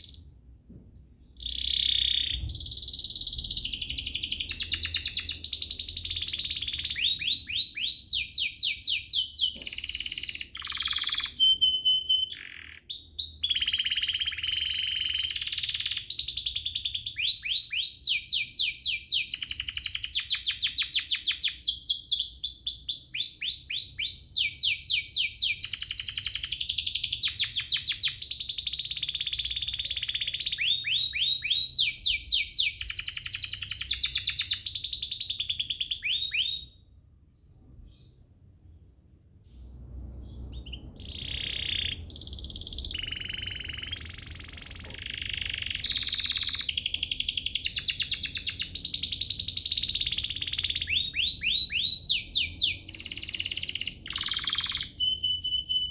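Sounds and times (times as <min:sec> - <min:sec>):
canary singing trills: 0:01.0 - 0:36.8, 0:40.2 - 0:55.9
short held whistles: 0:01.0 - 0:36.8, 0:40.7 - 0:55.9.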